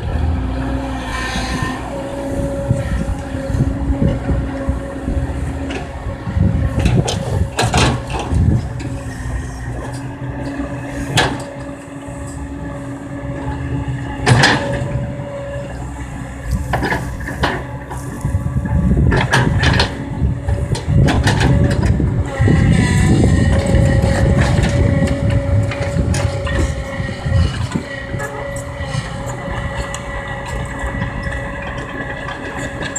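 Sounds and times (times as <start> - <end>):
excavator engine and hydraulic whine: 0.0 - 32.9.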